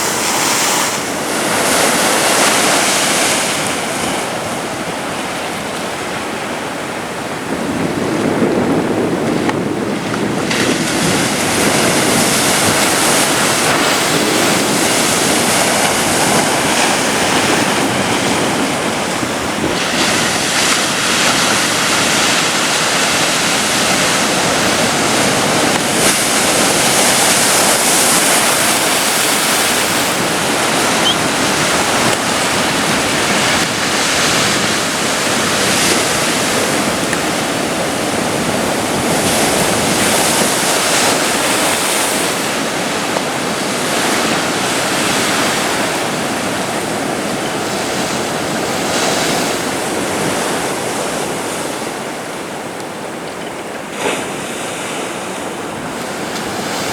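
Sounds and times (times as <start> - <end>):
surf washing up a beach: 0.0 - 56.9
wind on microphone: 0.0 - 56.9.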